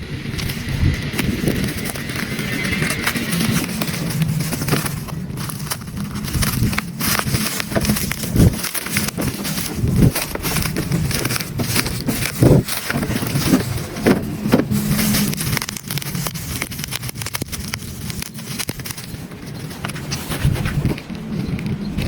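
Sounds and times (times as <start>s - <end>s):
small electric motors whining: 0.0s - 22.0s
clicks and crunching: 0.2s - 22.0s.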